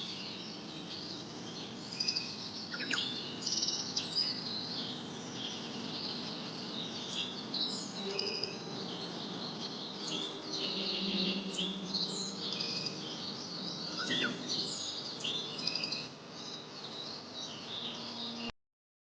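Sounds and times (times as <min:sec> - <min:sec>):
birds chirping and calling: 0:00.0 - 0:18.4.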